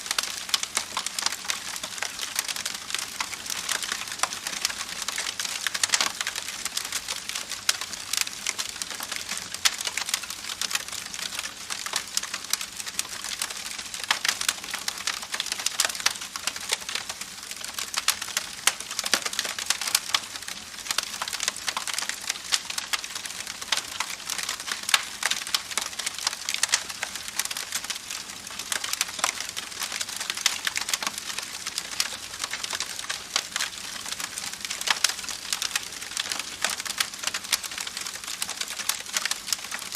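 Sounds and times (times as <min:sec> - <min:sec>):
wood crackling and popping: 0:00.0 - 0:39.9.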